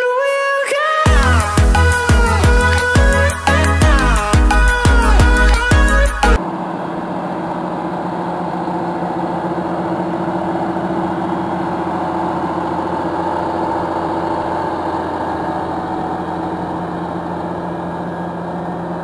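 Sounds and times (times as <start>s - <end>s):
tractor diesel engine running: 1.0s - 19.0s.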